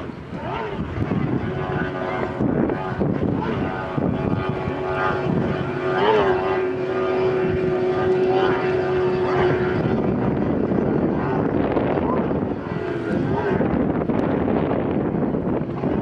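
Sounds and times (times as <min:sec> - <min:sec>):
outboard motor at full speed: 0:00.0 - 0:16.0.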